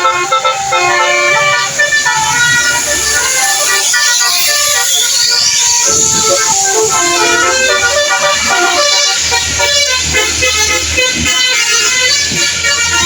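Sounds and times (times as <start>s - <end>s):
bus musical horns playing tune: 0.0s - 13.0s.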